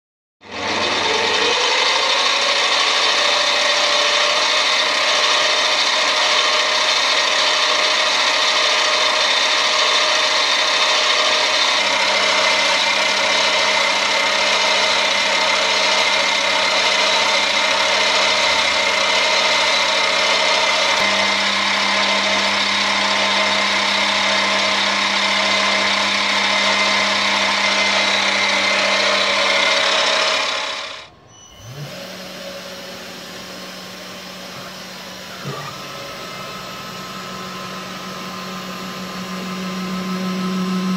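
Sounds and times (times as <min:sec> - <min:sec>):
lathe motor whine: 0:00.5 - 0:40.9.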